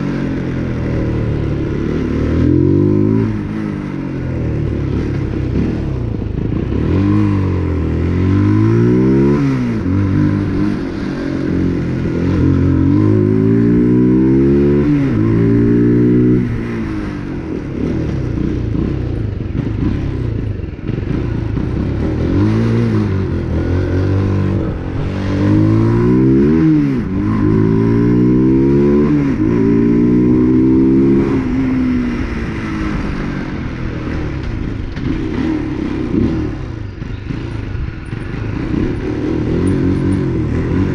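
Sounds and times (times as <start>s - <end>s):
motorcycle accelerating through gears: 0.0s - 40.9s.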